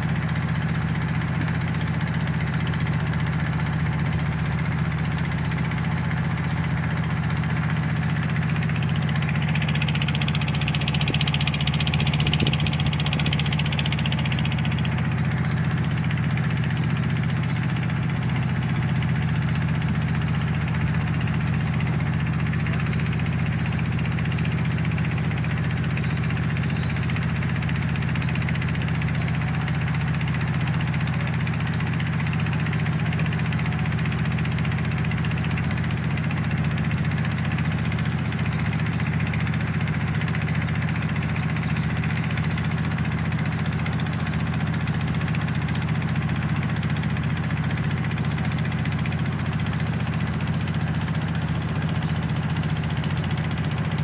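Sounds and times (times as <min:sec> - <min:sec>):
ferry engine humming: 0:00.0 - 0:54.0.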